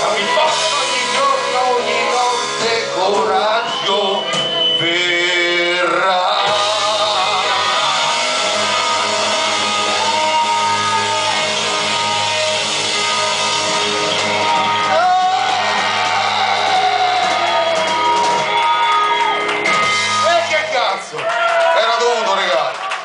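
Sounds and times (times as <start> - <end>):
person singing: 0.0 - 19.4
electric guitars: 0.0 - 21.2
rock band playing live: 0.0 - 22.4
drums: 0.0 - 23.0.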